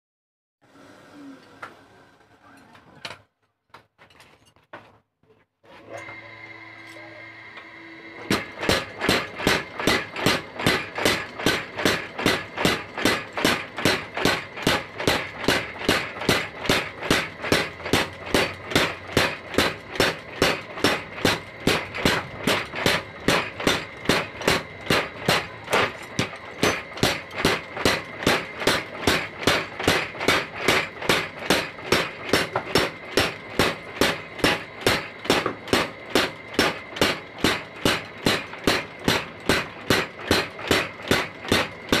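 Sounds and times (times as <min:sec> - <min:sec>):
power hammer pounding steel: 0:08.0 - 0:42.0.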